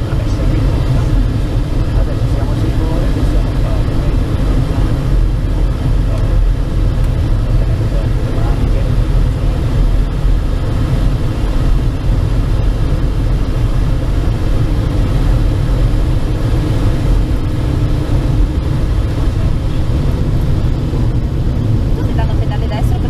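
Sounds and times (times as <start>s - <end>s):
aircraft cabin drone: 0.0s - 23.0s.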